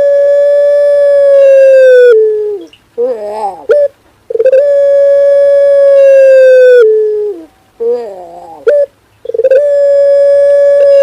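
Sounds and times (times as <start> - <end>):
dove cooing loudly: 0.0 - 11.0.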